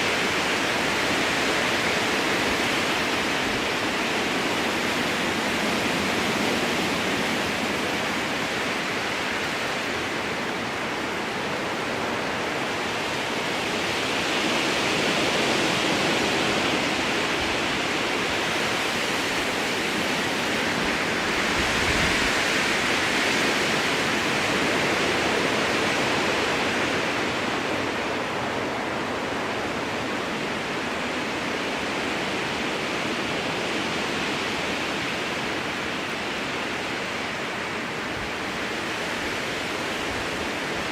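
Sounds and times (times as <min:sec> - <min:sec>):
strong wind through trees: 0:00.0 - 0:40.9.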